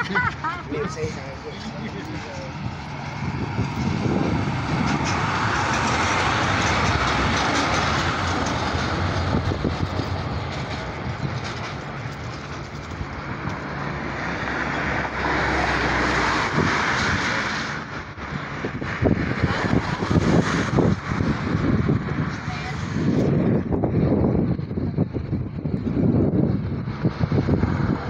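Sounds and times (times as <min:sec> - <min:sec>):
airplane passing overhead: 0:00.0 - 0:28.0
city traffic noise: 0:00.0 - 0:28.0.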